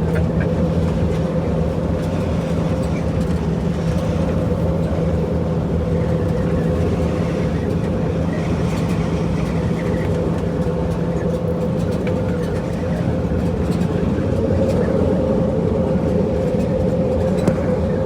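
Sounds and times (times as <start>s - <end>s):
diesel engine droning: 0.0s - 18.0s.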